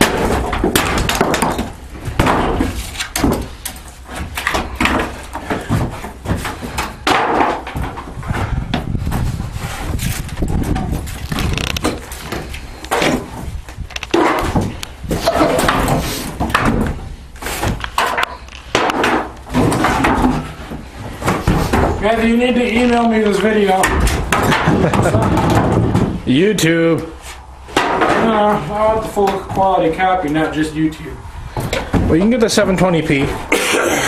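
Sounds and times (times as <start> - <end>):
wood banging and cracking: 0.0 - 26.2, 27.7 - 30.6, 31.5 - 34.0.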